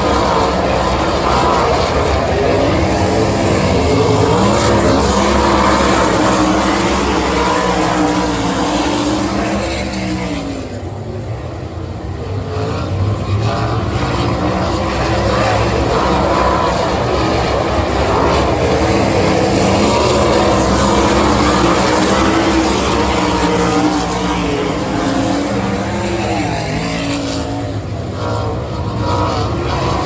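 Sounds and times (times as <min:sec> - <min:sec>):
race car engines accelerating: 0:00.0 - 0:30.0.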